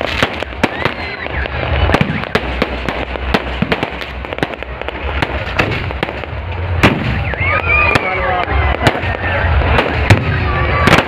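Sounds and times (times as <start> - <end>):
fireworks bursting with bangs: 0.0 - 11.0.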